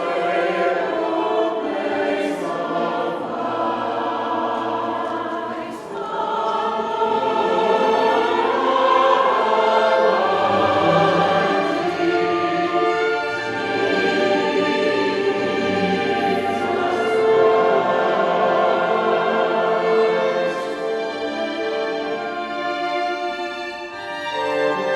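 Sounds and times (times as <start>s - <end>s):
choir singing sacred music: 0.0s - 24.9s.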